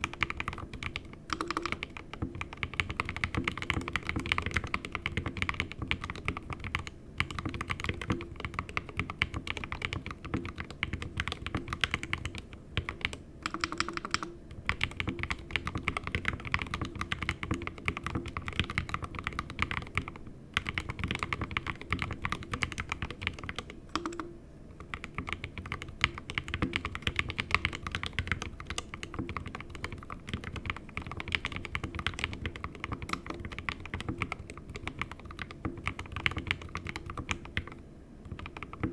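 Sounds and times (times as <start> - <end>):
fast typing on a keyboard: 0.0 - 24.2, 24.8 - 38.9.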